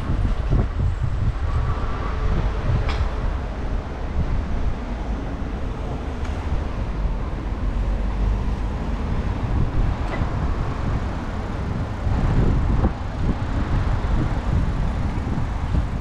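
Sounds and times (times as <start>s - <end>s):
cars going by: 0.0s - 16.0s.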